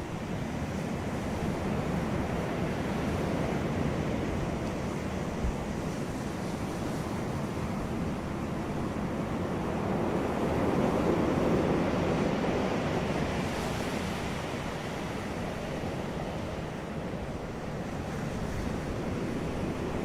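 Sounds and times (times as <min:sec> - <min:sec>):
ocean waves breaking: 0:00.2 - 0:20.0.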